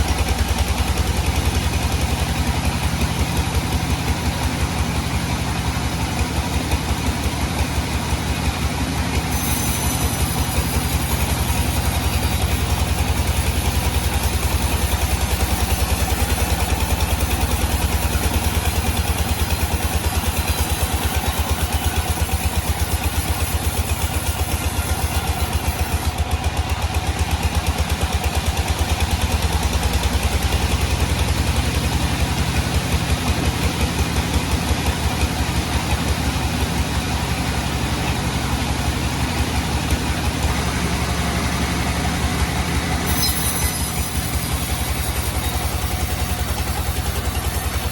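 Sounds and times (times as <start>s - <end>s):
sawmill engine throbbing: 0.0s - 47.9s.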